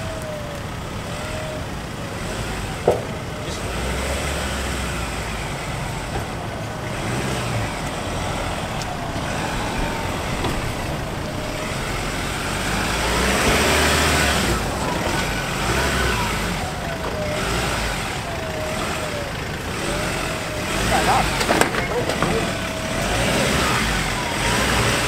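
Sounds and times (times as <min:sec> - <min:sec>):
pickup engine at low revs: 0:00.0 - 0:25.0.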